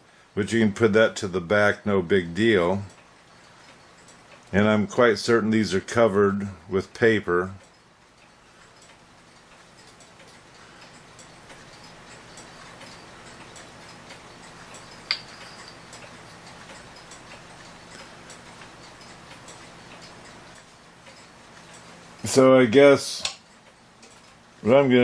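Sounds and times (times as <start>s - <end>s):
clock ticking: 0.4s - 25.0s.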